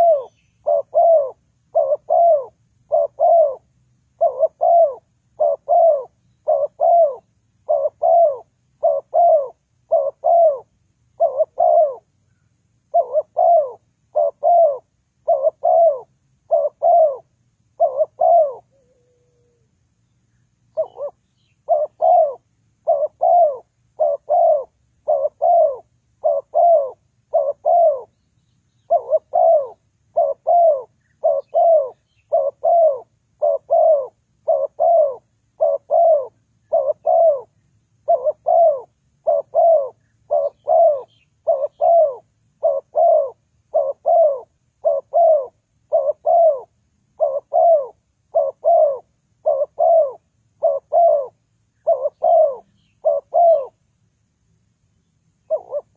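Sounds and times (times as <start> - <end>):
dove cooing: 0.0 - 19.7, 20.7 - 28.2, 28.8 - 53.8, 55.4 - 55.9.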